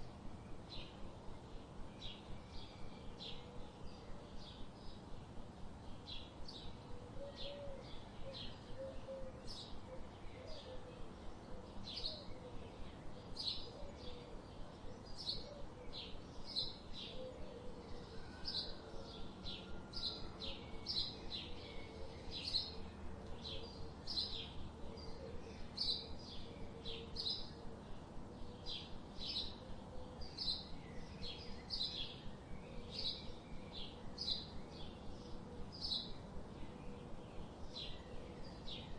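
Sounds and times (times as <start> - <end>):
faint background hum: 0.0 - 38.9
small birds chirping: 0.0 - 38.9.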